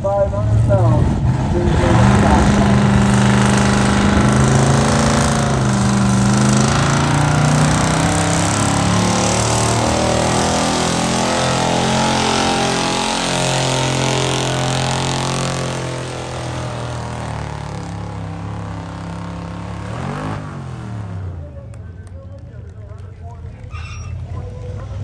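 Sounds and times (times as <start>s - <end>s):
pickup truck engine revving hard: 0.8s - 21.4s.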